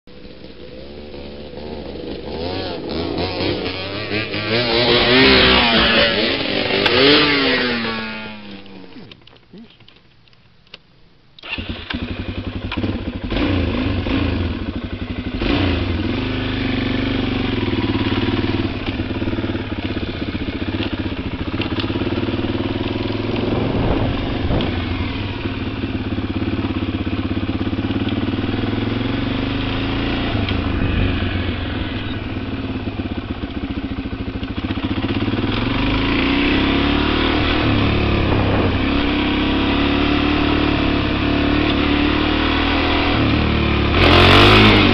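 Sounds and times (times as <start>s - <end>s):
dirt bike engine revving: 0.2s - 9.1s, 11.4s - 44.9s.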